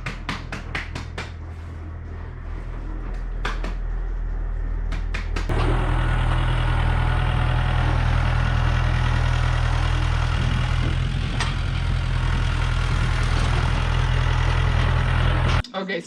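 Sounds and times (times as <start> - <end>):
engine droning: 0.0 - 15.6.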